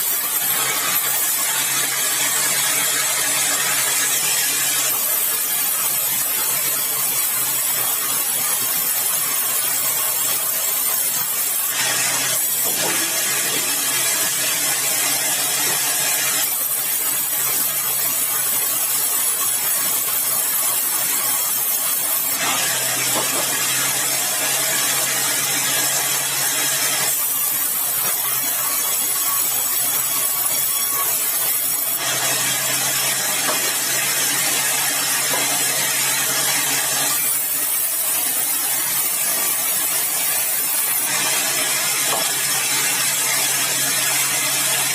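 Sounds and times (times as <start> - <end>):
saw cutting through log: 0.0 - 44.9.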